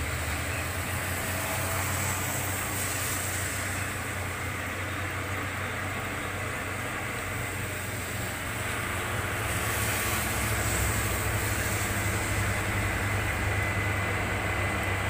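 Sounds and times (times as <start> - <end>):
rain: 0.0 - 15.0
truck engine under load: 0.0 - 15.0
tyre hiss on wet road: 0.0 - 15.0.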